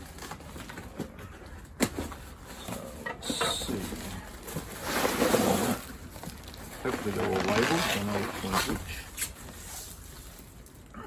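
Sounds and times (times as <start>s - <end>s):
cardboard and wrapping rustling: 0.0s - 11.0s.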